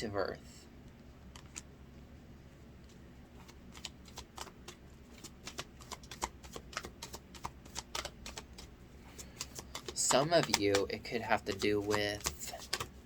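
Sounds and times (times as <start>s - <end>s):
cards being shuffled: 1.2s - 1.7s, 2.8s - 13.0s.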